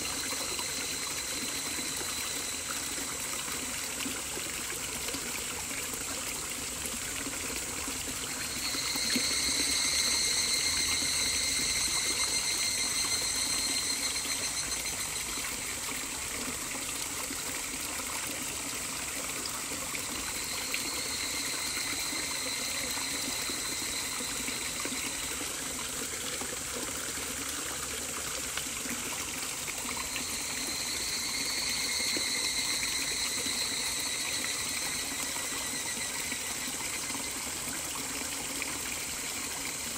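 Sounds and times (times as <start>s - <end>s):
high ringing tone: 0.0s - 4.0s, 7.5s - 27.2s, 27.9s - 39.7s
water trickling: 0.0s - 39.9s.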